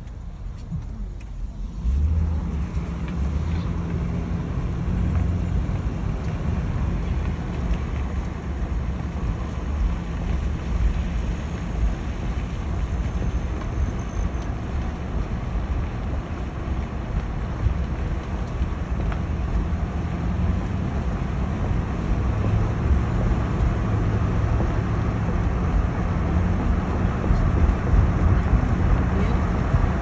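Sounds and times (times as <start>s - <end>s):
car rumbling: 0.0s - 30.0s
road noise: 0.0s - 30.0s.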